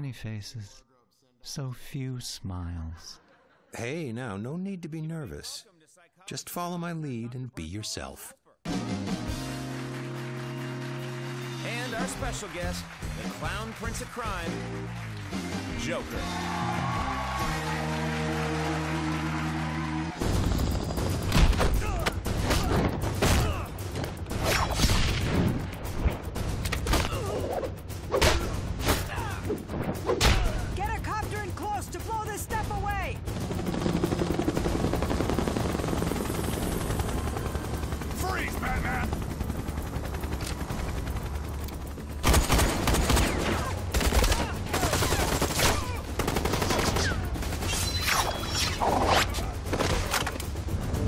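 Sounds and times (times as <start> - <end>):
action film score music: 8.7 - 51.0.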